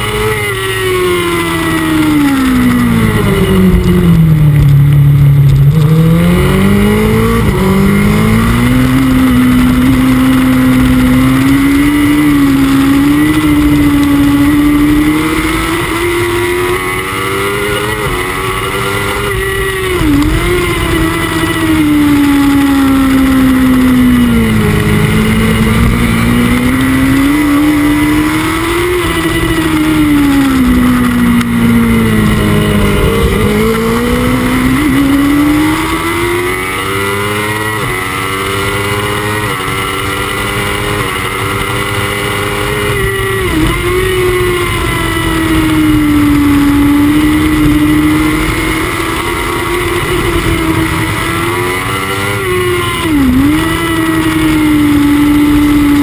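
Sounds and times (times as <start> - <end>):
motorcycle engine running hard: 0.0 - 56.0
wind noise: 1.3 - 56.0.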